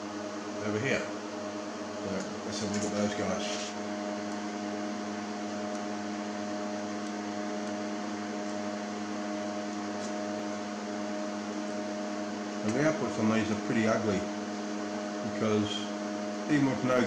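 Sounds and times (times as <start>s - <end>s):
electrical hum: 0.0s - 17.0s
fan whir: 0.0s - 17.0s.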